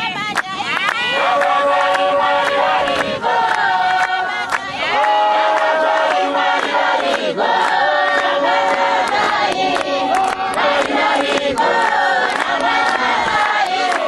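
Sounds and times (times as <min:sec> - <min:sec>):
congregation singing a hymn: 0:00.1 - 0:14.0
hand-clapping: 0:00.2 - 0:14.0.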